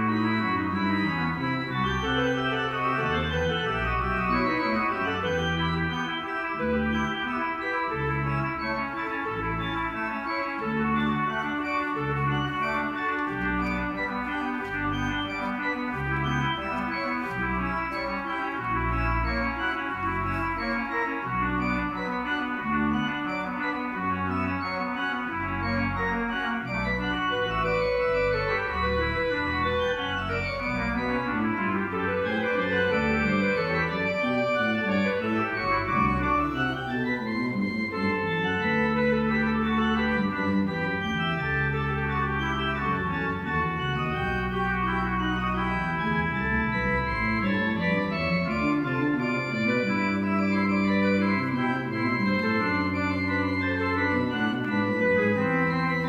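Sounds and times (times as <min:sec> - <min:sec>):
organ playing chords: 0:00.0 - 0:56.0.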